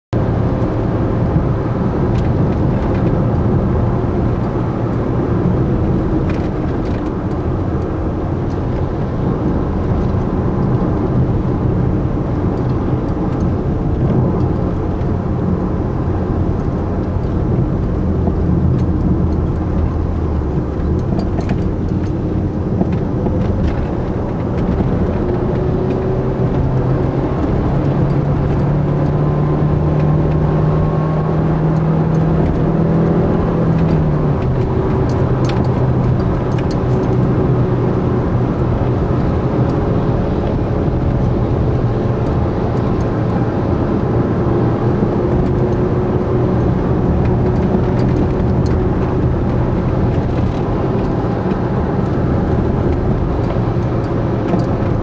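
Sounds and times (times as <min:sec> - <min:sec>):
car engine running: 0:00.1 - 0:55.0
tyre and road rumble: 0:00.2 - 0:55.0.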